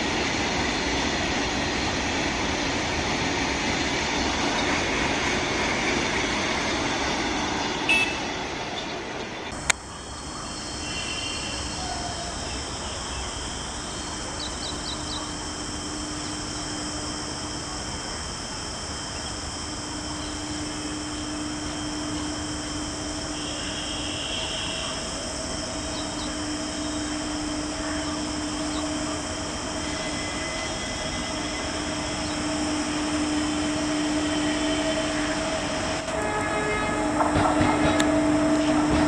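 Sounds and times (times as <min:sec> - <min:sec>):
electric locomotive humming: 0:00.0 - 0:39.0.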